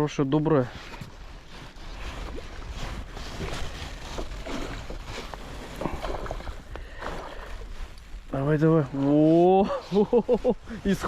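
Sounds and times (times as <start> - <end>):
water splashing: 1.6 - 11.0.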